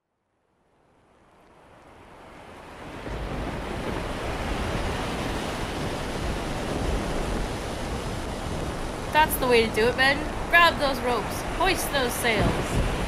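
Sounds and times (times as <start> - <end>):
waves surging: 1.0 - 13.0
wind rushing: 2.0 - 13.0.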